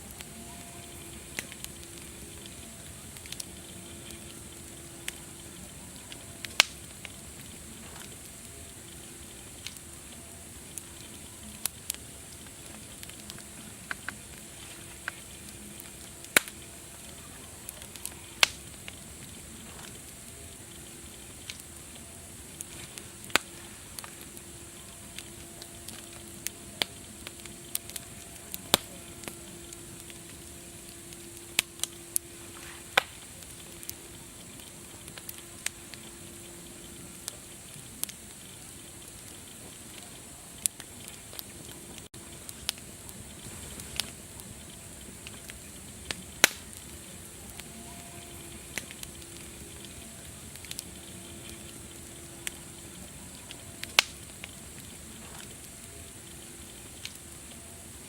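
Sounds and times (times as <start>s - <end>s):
soft fire hiss: 0.0s - 58.0s
wood fire crackling and popping: 0.0s - 58.0s.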